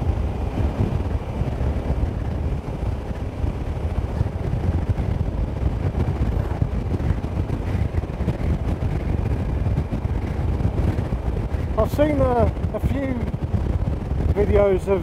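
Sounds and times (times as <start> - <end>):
motorcycle engine running: 0.0 - 14.4
wind buffeting microphone: 0.0 - 15.0.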